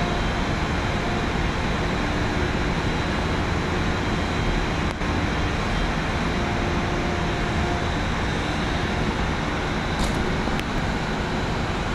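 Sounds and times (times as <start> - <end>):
crane machinery drone: 0.0 - 11.9.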